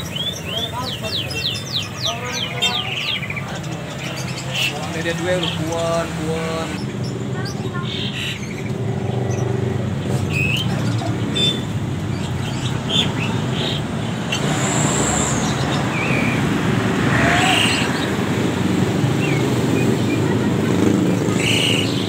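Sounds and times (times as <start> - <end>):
road traffic rumble: 0.0 - 22.0
songbirds chirping and whistling: 0.0 - 22.0.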